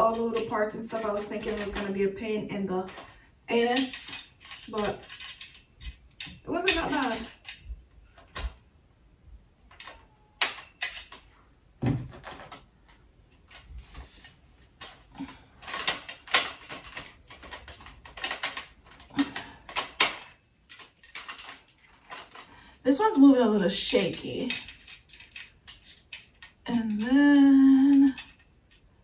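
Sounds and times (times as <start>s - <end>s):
metal tubes clicking and clinking: 0.0s - 8.5s, 9.7s - 11.4s, 12.2s - 29.0s.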